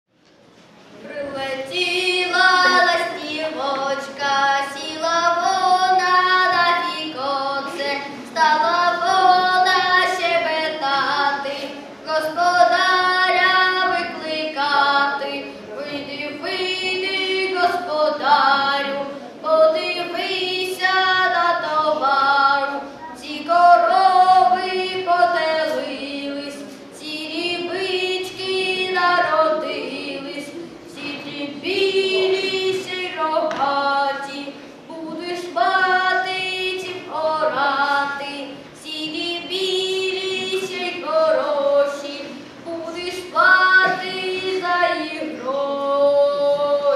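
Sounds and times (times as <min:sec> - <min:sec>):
boy singing unaccompanied: 0:01.0 - 0:46.9.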